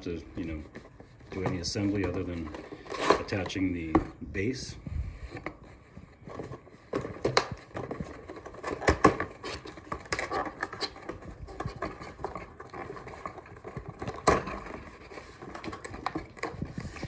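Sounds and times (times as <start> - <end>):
cardboard sleeve scraping off box: 0.0 - 4.2, 5.2 - 17.0.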